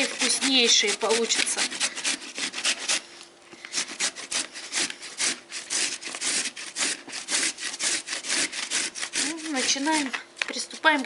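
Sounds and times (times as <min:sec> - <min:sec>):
carrot grating on metal grater: 0:00.0 - 0:11.0.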